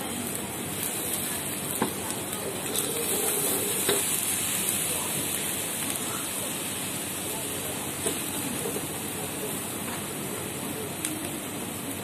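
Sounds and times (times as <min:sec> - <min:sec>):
egg sizzling in hot oil: 0:00.2 - 0:10.3.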